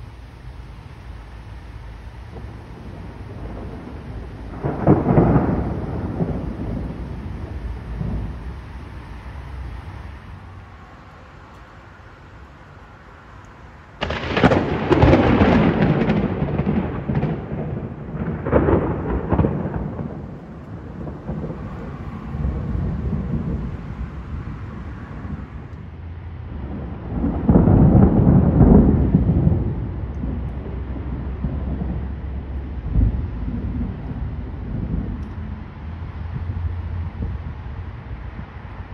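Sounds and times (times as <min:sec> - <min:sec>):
thunder clap and rumbling: 0:00.0 - 0:10.7, 0:13.9 - 0:38.9.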